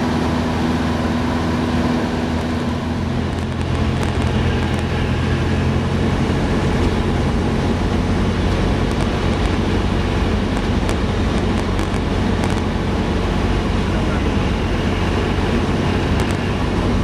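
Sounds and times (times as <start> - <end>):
airflow rushing: 0.0 - 17.0
propeller plane engine droning: 0.0 - 17.0.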